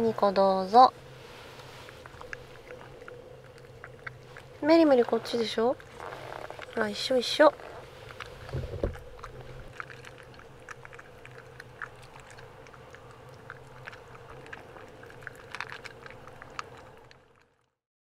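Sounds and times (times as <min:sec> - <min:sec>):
dogs rustling: 0:00.0 - 0:17.1
steady low hum: 0:00.0 - 0:17.7.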